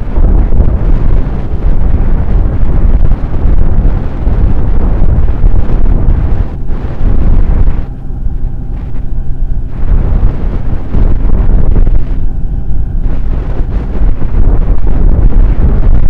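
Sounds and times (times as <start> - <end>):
motorcycle engine hum: 0.0 - 16.0
wind buffeting microphone: 0.0 - 16.0.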